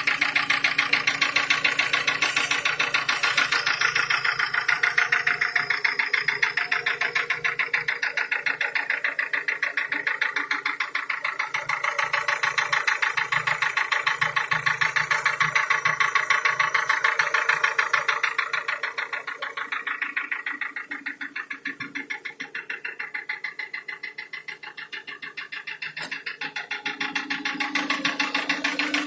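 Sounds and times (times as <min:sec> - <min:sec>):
car engine idling: 0:00.0 - 0:29.0
rapid engine knock: 0:00.0 - 0:29.0.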